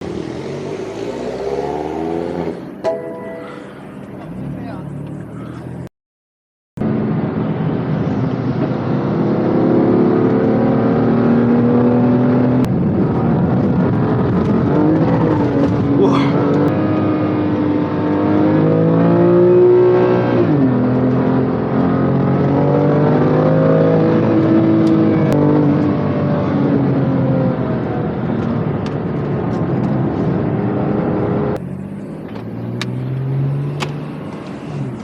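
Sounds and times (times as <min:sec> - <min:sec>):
car engine accelerating: 0:00.0 - 0:02.8, 0:03.4 - 0:05.9, 0:06.8 - 0:35.0.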